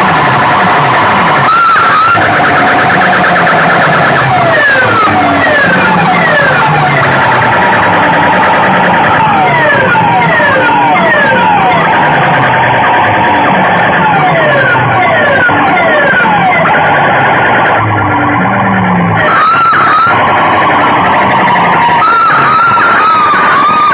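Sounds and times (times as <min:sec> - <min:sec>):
siren-like falling pitch sweeps: 0:00.0 - 0:23.9.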